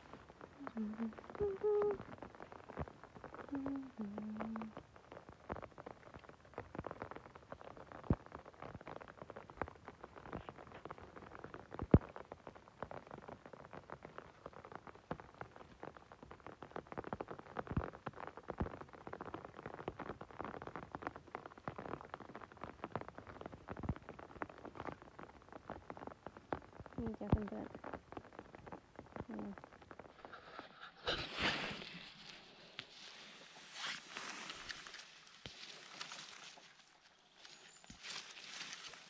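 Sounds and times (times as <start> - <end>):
rustling and crackling of moss: 0.0 - 39.0.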